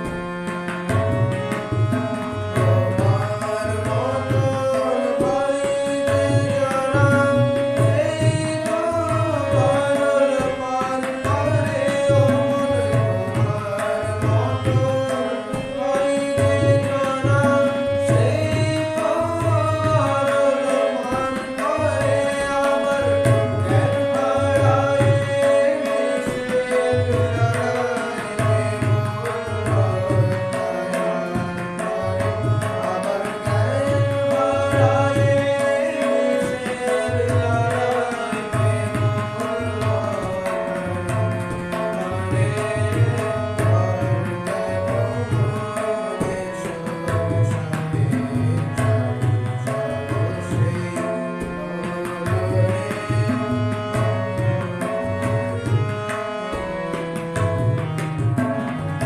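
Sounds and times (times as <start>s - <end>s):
harmonium: 0.0s - 59.0s
man singing: 0.0s - 59.0s
tabla drumming: 0.0s - 59.0s.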